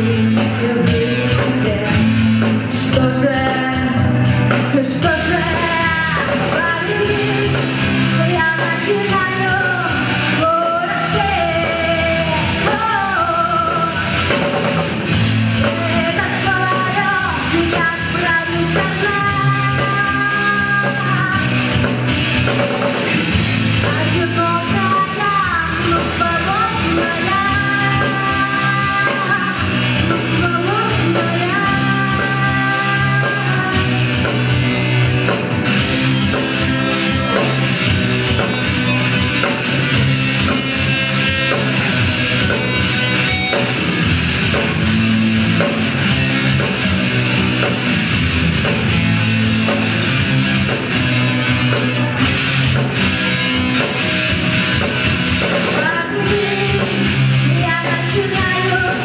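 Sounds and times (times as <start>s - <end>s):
gliding electric guitar notes: 0.0s - 59.0s
rock band playing loudly: 0.0s - 59.0s.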